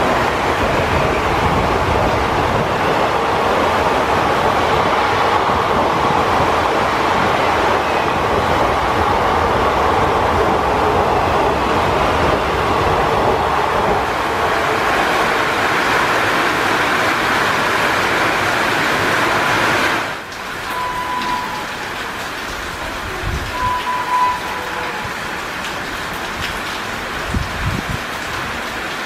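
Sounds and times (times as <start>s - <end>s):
heavy rain hiss: 0.0s - 29.0s
train wheels rumbling on rail: 0.0s - 29.0s.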